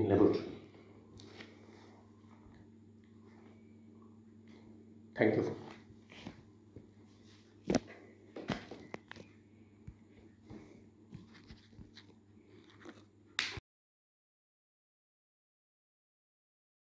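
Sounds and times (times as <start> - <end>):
low steady hum: 0.0 - 13.6.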